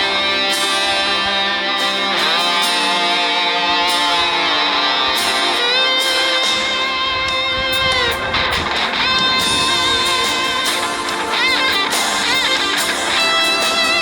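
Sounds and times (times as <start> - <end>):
electric guitar lead notes: 0.0 - 14.0
strummed guitar backing: 0.0 - 14.0.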